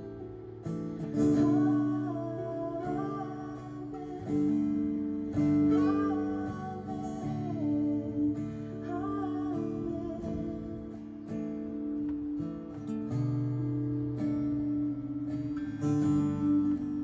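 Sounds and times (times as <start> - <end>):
acoustic guitars strummed: 0.0 - 17.0
woman singing: 0.0 - 17.0.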